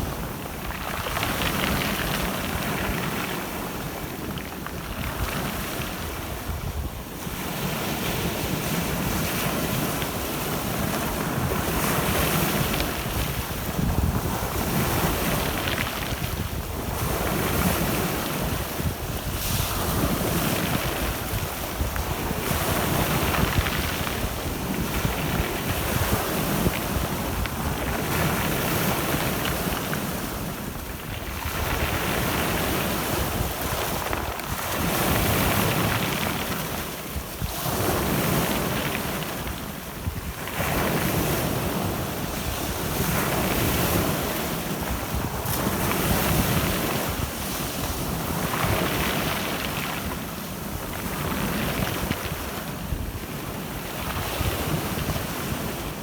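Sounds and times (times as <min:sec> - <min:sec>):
waves breaking on shore: 0:00.0 - 0:56.0
wind on microphone: 0:00.0 - 0:56.0.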